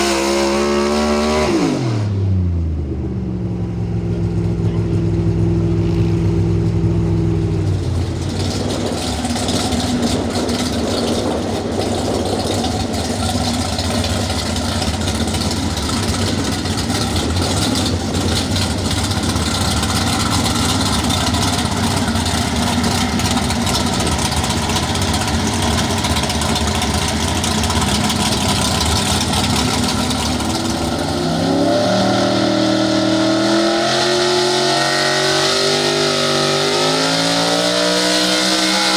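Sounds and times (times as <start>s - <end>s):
truck engine at high revs: 0.0s - 38.9s.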